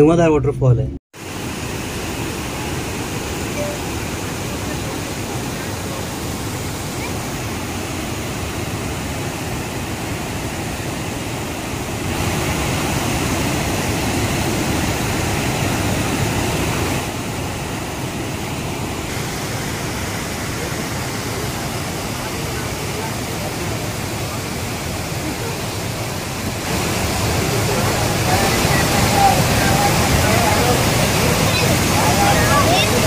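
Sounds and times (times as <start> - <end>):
waterfall pouring over rocks: 1.2 - 33.0.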